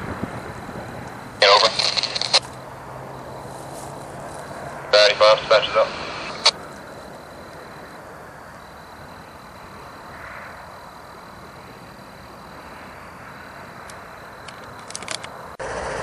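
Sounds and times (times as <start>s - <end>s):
distant vehicle noise: 0.0s - 16.0s.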